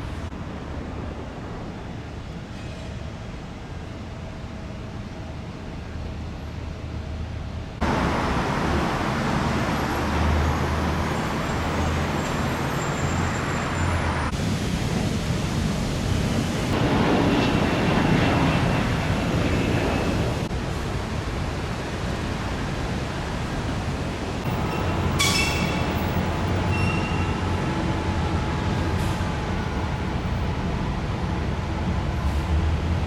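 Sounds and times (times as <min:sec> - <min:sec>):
road traffic rushing: 0:05.3 - 0:33.0.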